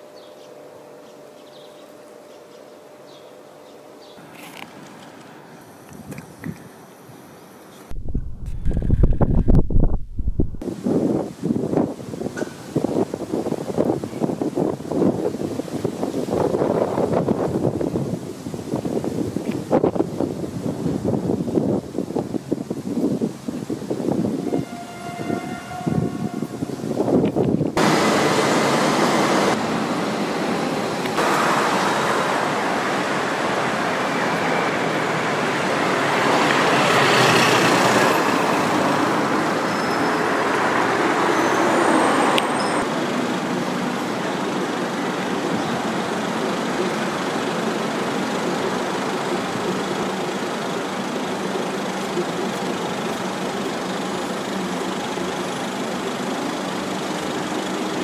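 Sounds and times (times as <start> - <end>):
road traffic hiss: 0.0 - 9.5, 10.6 - 58.0.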